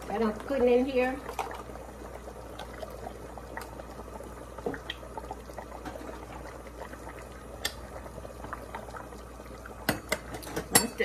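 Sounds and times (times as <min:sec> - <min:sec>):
pot boiling with bubbling: 0:00.0 - 0:11.0.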